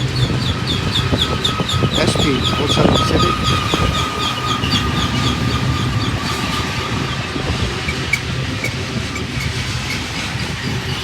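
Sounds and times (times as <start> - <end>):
high wheel squeaks: 0.0 - 11.0
train wheels rumbling on rail: 0.0 - 11.0.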